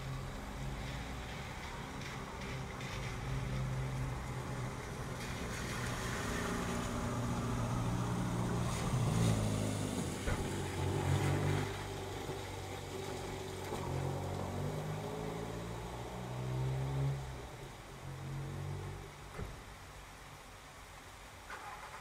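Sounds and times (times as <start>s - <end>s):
car engine: 0.0s - 19.5s
steady rain: 0.0s - 22.0s.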